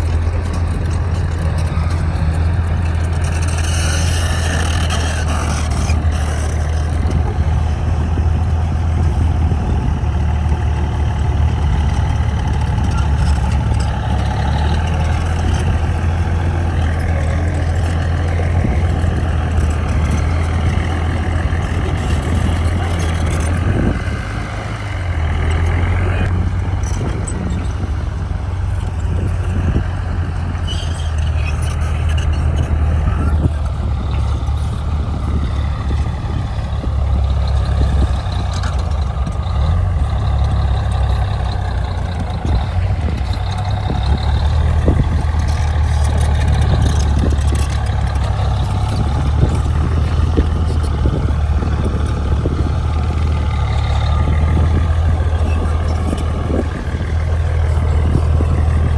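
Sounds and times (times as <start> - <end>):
diesel engine drone: 0.0 - 58.9.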